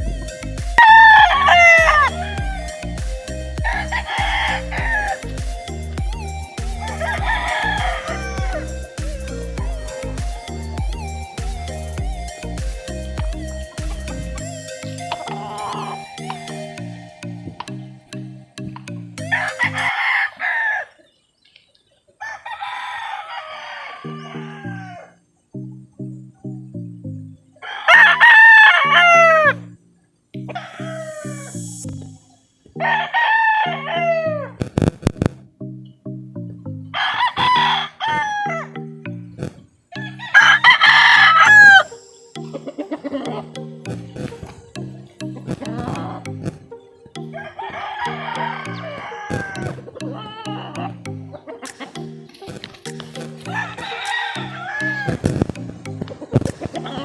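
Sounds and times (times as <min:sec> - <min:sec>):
roosters crowing: 0:00.0 - 0:17.8, 0:19.2 - 0:21.1, 0:22.2 - 0:25.3, 0:27.5 - 0:29.7, 0:30.4 - 0:31.6, 0:32.7 - 0:34.6, 0:36.9 - 0:38.9, 0:39.9 - 0:57.0
background music with steady beat: 0:00.0 - 0:20.8, 0:22.4 - 0:57.0.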